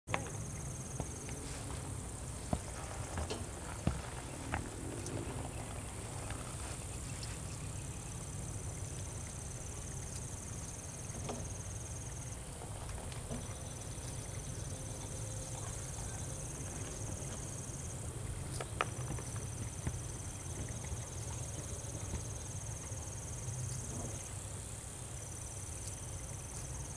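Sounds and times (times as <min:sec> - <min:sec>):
high insect trill: 0:00.1 - 0:26.9.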